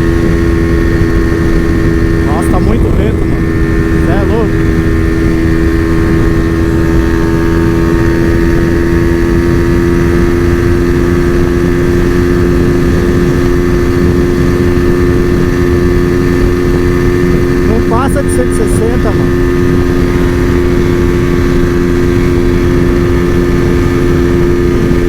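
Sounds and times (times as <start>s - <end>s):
motorcycle engine at full throttle: 0.0s - 25.0s
wind noise on microphone: 0.0s - 25.0s.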